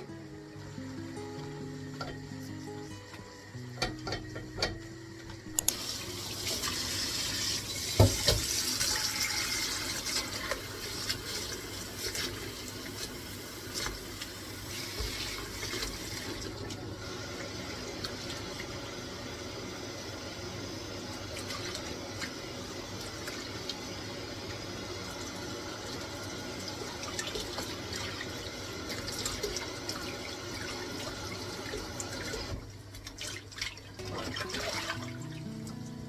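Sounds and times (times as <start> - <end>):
water running into a sink: 0.0 - 36.0.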